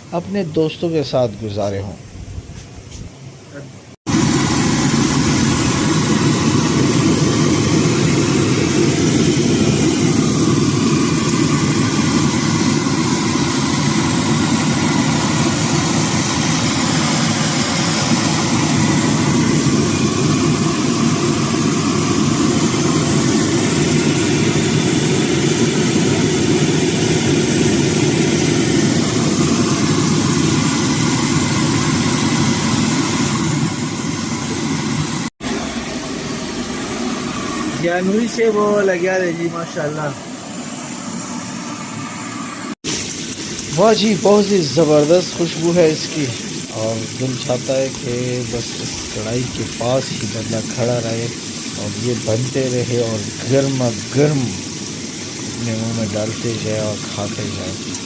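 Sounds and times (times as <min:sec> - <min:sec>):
fish deep-frying in oil: 0:04.1 - 0:39.4, 0:40.6 - 0:58.0.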